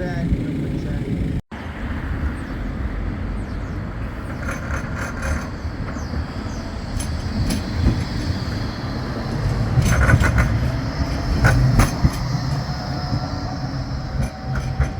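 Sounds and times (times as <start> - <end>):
tram rumbling on rails: 0.0 - 14.9.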